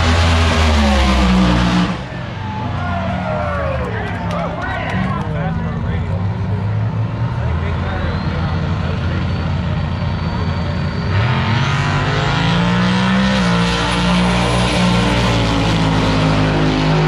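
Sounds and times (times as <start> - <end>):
drag racing cars accelerating: 0.0 - 17.0.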